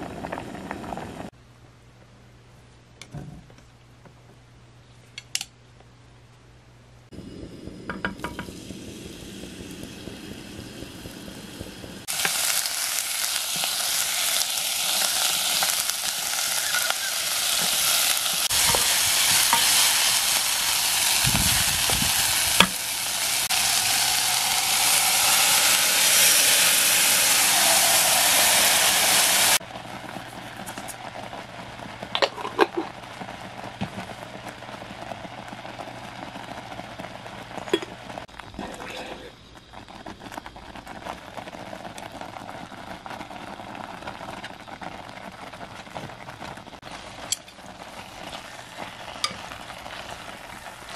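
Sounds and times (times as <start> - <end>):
food sizzling in oil: 7.2 - 50.9.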